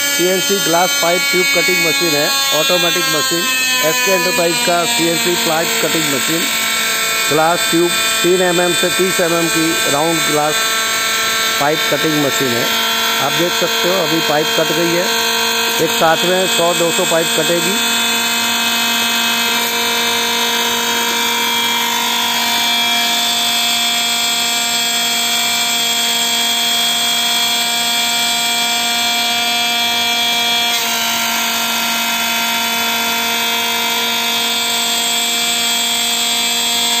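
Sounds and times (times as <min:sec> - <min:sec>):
cutting machine whine: 0:00.0 - 0:37.0.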